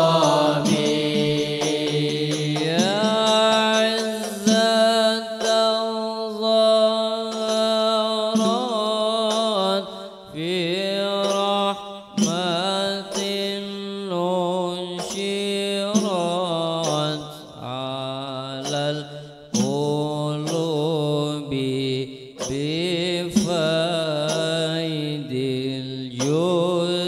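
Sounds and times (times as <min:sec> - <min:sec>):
man singing into microphone: 0:00.0 - 0:27.0.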